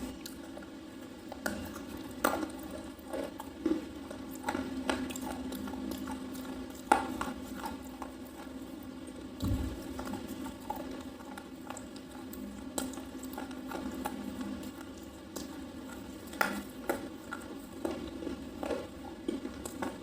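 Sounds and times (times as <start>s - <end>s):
crisp chewing crunches: 0.0s - 20.0s.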